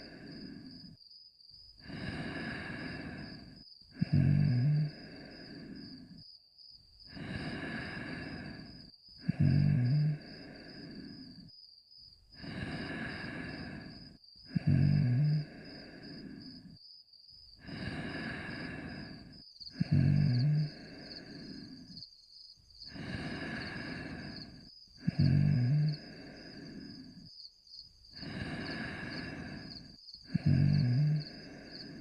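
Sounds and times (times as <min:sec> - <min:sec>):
cartoon dog snoring: 0:00.0 - 0:00.9, 0:01.8 - 0:06.2, 0:07.1 - 0:11.5, 0:12.4 - 0:16.8, 0:17.6 - 0:22.0, 0:22.9 - 0:27.3, 0:28.1 - 0:32.0.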